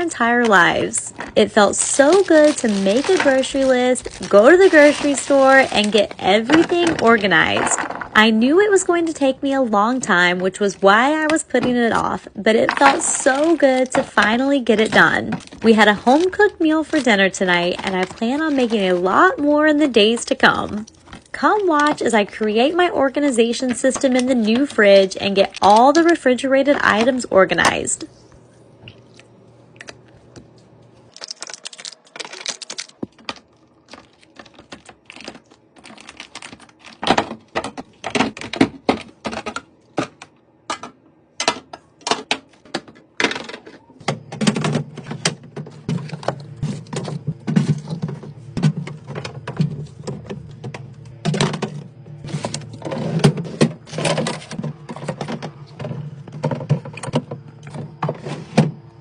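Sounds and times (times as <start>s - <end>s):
steady low hum: 0.0s - 59.0s
groceries clattering onto shelves: 0.1s - 8.3s, 10.0s - 27.9s, 31.2s - 58.8s.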